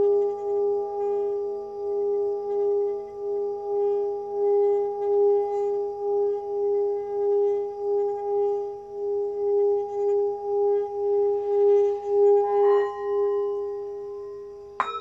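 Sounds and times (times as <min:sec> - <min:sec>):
singing bowl wavering tone: 0:00.0 - 0:15.0.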